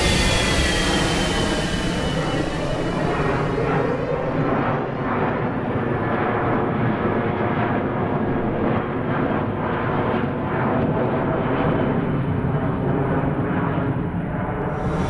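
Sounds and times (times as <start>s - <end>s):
jet airliner engines: 0.0s - 15.0s.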